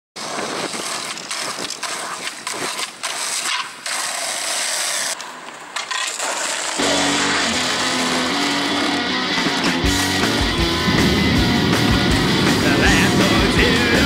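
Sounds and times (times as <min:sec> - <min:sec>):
skateboard wheels rolling on pavement: 0:00.2 - 0:14.0.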